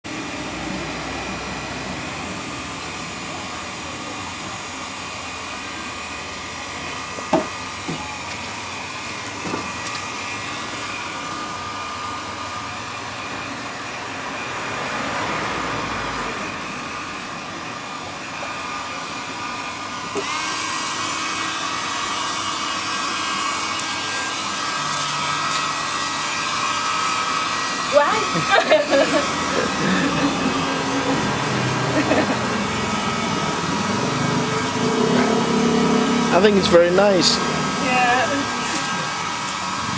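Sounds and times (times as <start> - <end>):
hair dryer blowing: 0.1 - 39.9.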